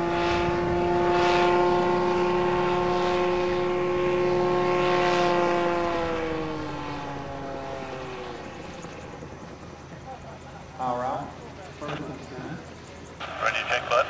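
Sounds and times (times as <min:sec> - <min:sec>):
engine and propeller overhead: 0:00.0 - 0:14.0
propeller whoosh: 0:00.0 - 0:14.0.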